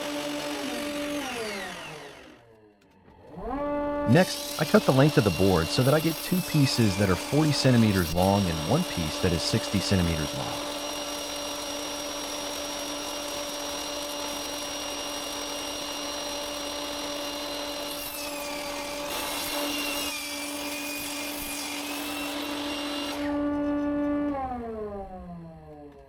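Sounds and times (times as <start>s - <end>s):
saw cutting through board: 0.0s - 23.9s
table saw running: 0.0s - 25.2s.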